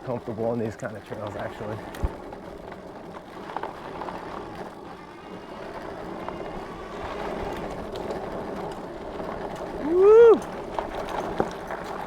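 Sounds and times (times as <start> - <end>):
electric bike motor hum: 0.1 - 12.0.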